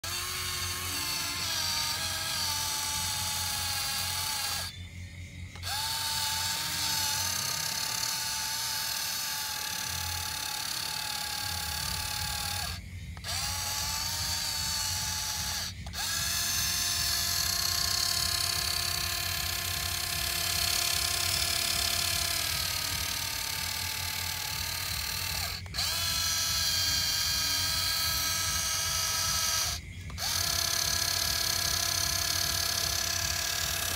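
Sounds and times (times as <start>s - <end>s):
toy tractor motors whining: 0.0s - 33.9s.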